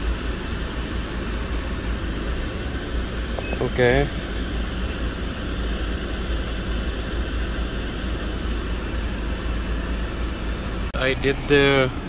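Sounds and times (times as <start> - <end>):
cabin fan blowing: 0.0 - 12.0
diesel engine idling: 0.0 - 12.0.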